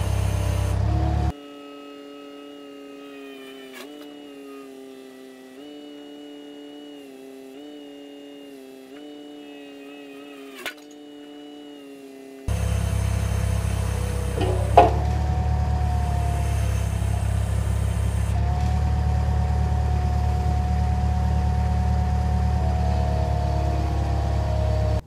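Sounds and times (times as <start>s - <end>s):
loader engine running: 0.0s - 1.4s, 2.4s - 25.0s
hydraulic whine: 0.0s - 25.0s.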